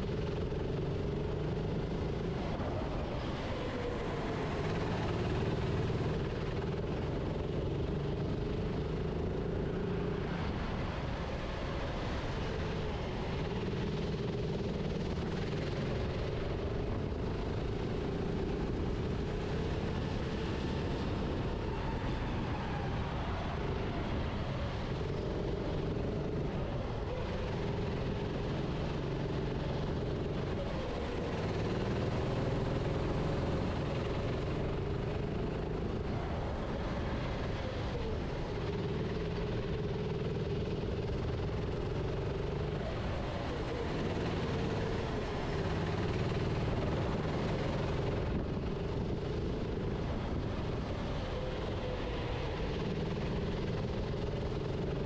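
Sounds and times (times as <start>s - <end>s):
kart engine revving: 0.0s - 55.0s
wind and road noise: 0.0s - 55.0s.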